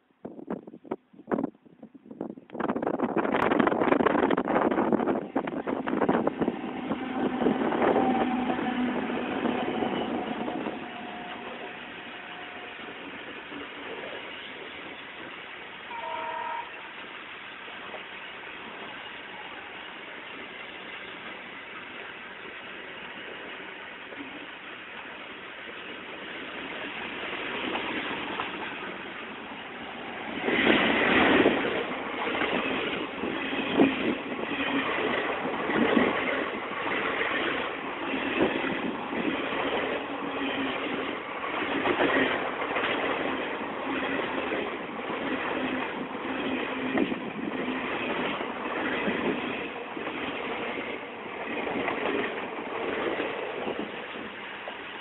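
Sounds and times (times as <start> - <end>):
train wheels rumbling on rail: 0.2 - 55.0
passenger coaches rattling past: 2.6 - 55.0
diesel locomotive passing: 2.9 - 55.0.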